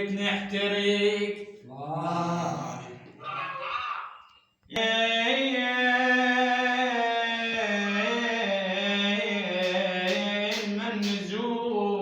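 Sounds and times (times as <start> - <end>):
person singing a lament: 1.7 - 4.1, 4.7 - 12.0.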